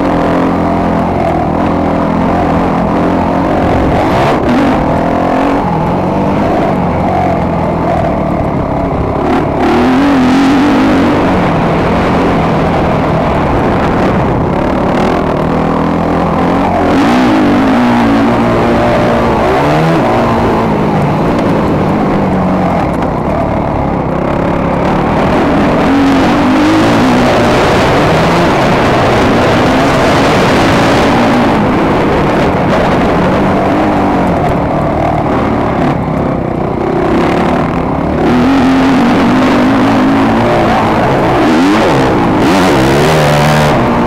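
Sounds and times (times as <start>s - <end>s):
motocross bike engine revving: 0.0s - 44.0s.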